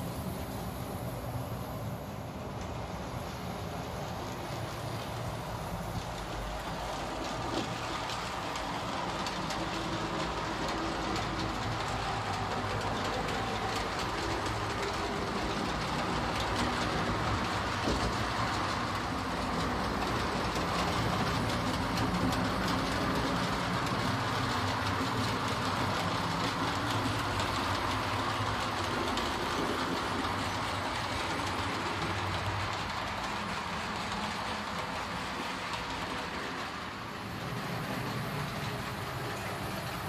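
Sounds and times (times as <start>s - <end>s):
model train wheels rattling: 2.4s - 40.0s.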